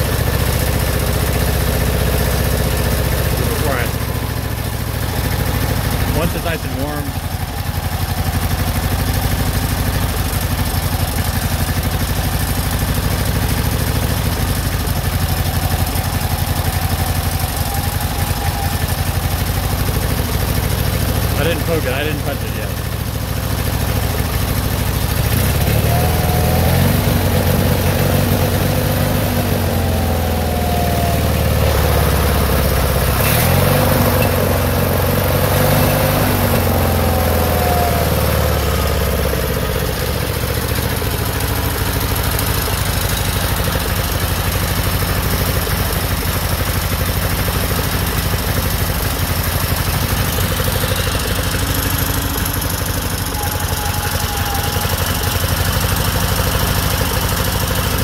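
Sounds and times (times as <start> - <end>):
two-cylinder engine running: 0.0 - 58.0.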